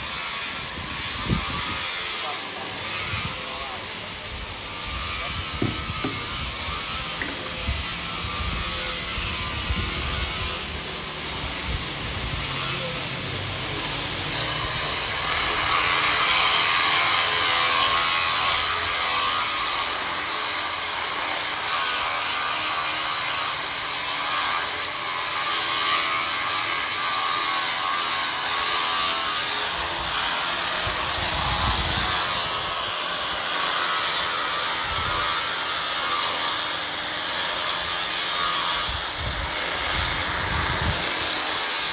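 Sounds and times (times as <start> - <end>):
power sander grinding stone: 0.0 - 41.9.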